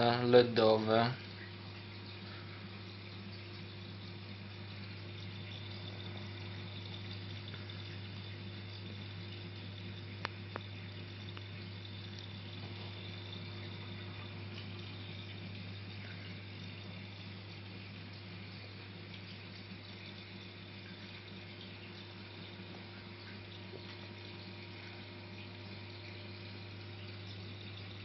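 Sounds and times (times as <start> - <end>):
water rushing and trickling: 0.4 - 28.0.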